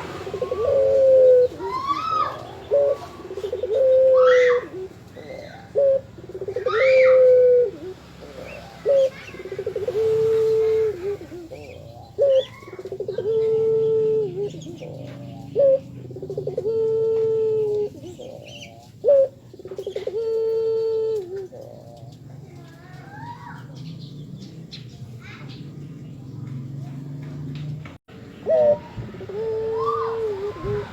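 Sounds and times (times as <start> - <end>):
dove cooing: 0.0 - 27.5, 28.2 - 30.9
small birds chirping: 0.0 - 30.9.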